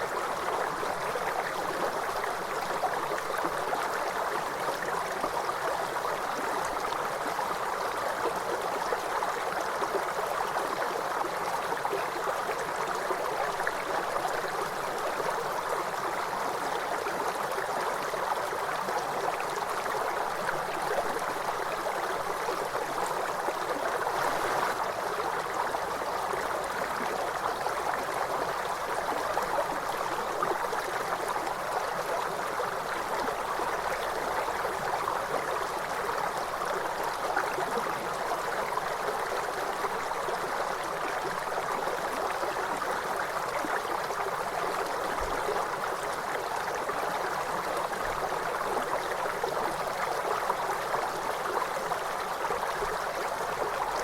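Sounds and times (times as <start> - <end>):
river water rushing and gurgling: 0.0 - 54.0.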